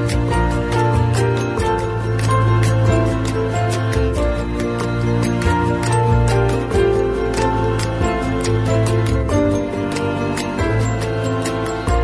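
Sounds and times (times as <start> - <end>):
calm background music: 0.0 - 12.0.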